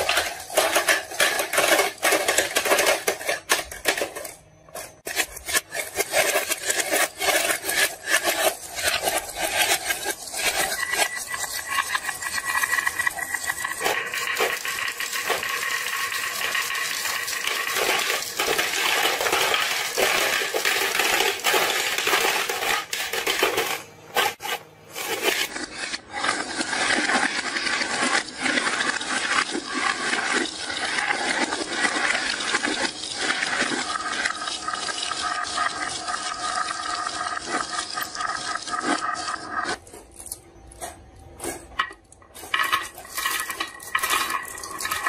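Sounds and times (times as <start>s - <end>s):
marbles rolling and clattering: 0.0s - 40.4s, 41.6s - 45.0s.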